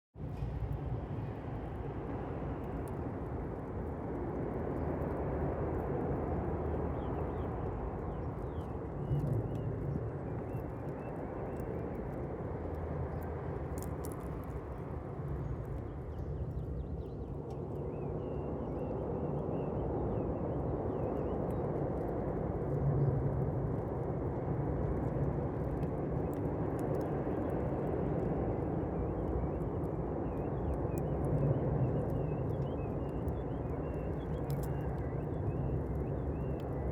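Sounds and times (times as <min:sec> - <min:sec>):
fire crackles: 0:00.3 - 0:16.8, 0:21.2 - 0:36.9.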